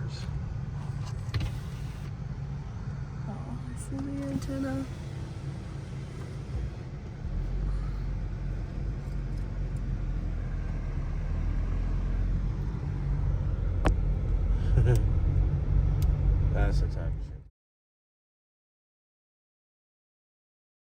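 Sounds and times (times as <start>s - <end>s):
low rumble of car driving: 0.0s - 17.5s.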